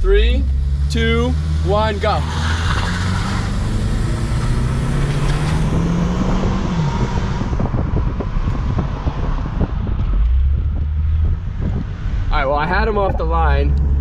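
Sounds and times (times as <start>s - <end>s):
car engine accelerating hard: 0.0s - 14.0s
road and wind rumble: 0.0s - 14.0s.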